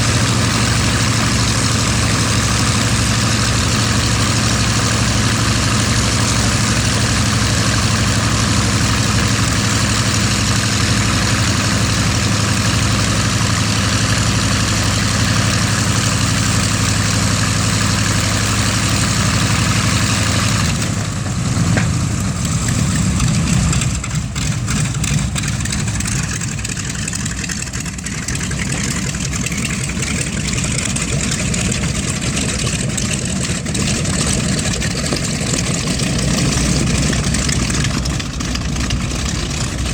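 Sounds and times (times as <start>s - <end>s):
radial aircraft engines running: 0.0s - 39.9s.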